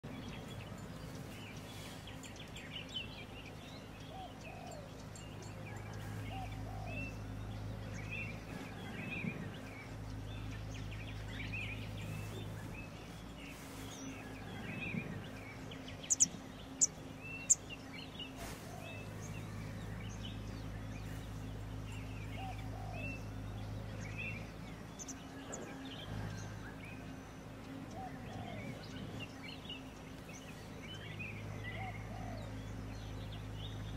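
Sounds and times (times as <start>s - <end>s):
small birds chirping: 0.0s - 33.9s
steady low hum: 0.0s - 33.9s.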